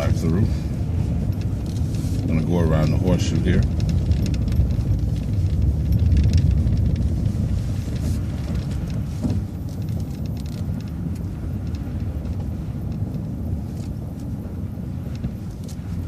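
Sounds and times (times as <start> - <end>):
bus engine and road rumble: 0.0 - 16.0
light rattles and clicks: 0.0 - 16.0.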